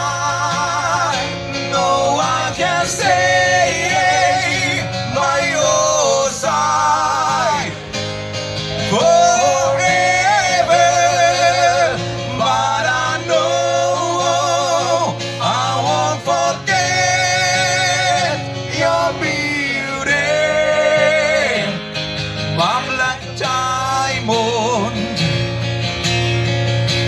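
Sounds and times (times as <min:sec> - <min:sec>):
man singing: 0:00.0 - 0:08.0, 0:08.7 - 0:25.3
guitar: 0:00.0 - 0:27.0.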